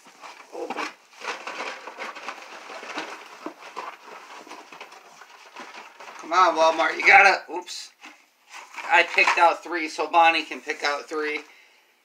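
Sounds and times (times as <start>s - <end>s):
blister packs rustling and crinkling: 0.0s - 7.3s, 7.9s - 11.6s.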